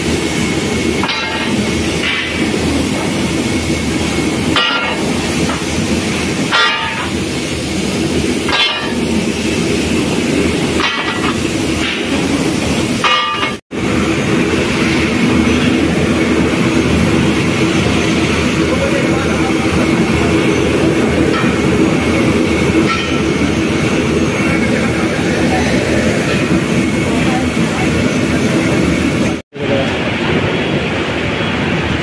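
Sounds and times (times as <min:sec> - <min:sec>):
heavy machinery din: 0:00.7 - 0:30.8.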